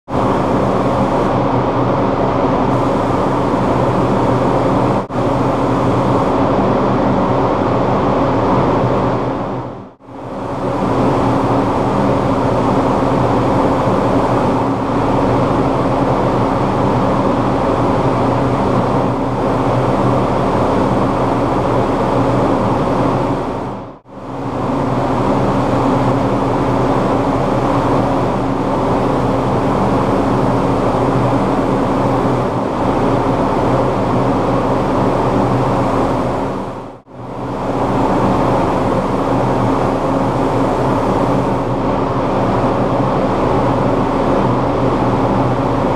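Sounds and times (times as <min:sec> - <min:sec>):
spray booth mechanical drone: 0:00.1 - 0:45.9.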